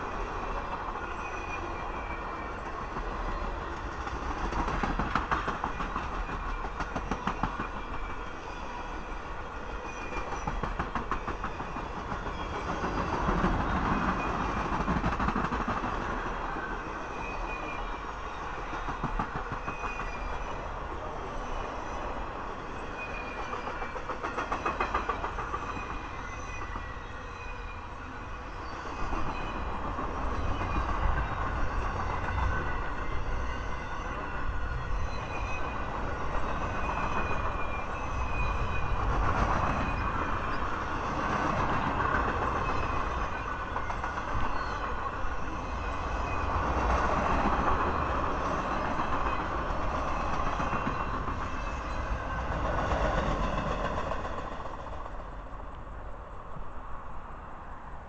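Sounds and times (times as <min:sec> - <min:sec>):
train wheels clacking: 0:00.0 - 0:27.9, 0:28.7 - 0:55.9
train rolling past: 0:00.0 - 0:58.0.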